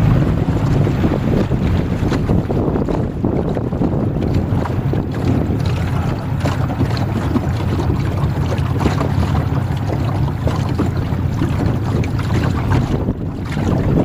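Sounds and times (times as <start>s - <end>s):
choppy water splashing: 0.0s - 14.0s
wind buffeting microphone: 0.0s - 14.0s.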